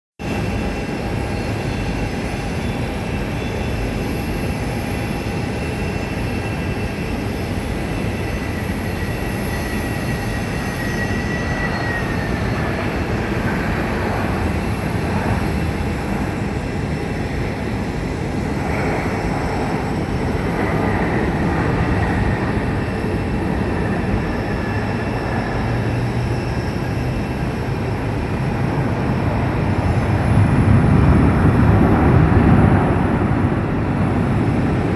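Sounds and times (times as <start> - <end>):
jet engine roar: 0.2 - 34.9
road traffic noise: 6.6 - 34.9.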